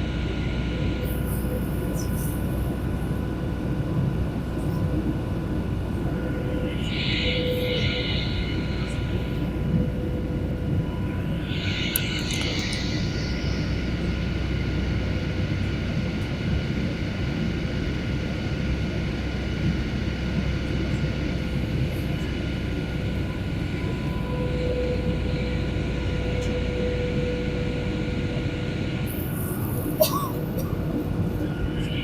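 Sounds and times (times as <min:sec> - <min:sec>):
faint whining tones: 0:00.0 - 0:18.8, 0:20.4 - 0:32.0
jet engine cabin drone: 0:00.0 - 0:32.0.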